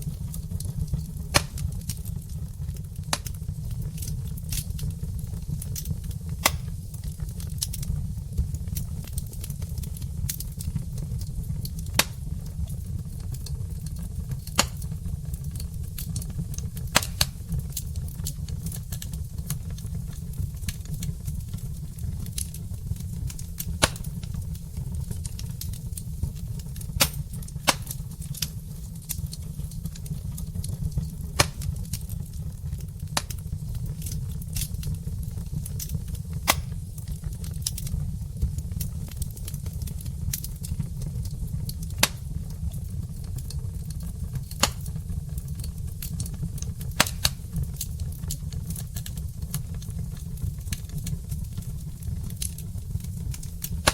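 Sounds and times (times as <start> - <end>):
fire low rumble: 0.0 - 53.9
logs crackling and popping: 0.0 - 53.9.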